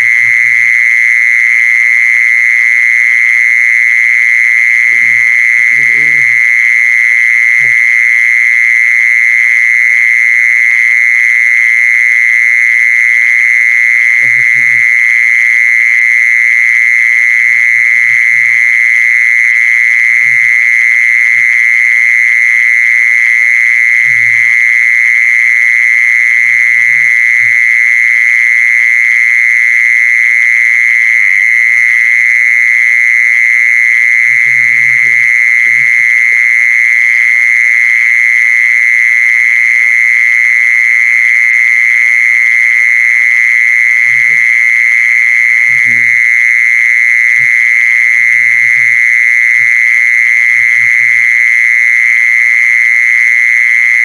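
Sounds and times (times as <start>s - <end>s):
faint low insect calls: 0.0s - 54.0s
insect buzzing call: 0.0s - 54.0s.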